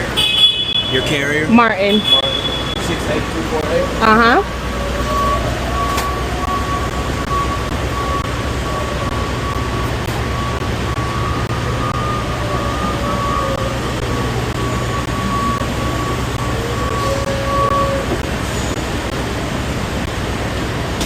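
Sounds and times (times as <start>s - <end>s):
diesel engine idling: 0.0s - 21.0s
thin constant whine: 0.9s - 21.0s.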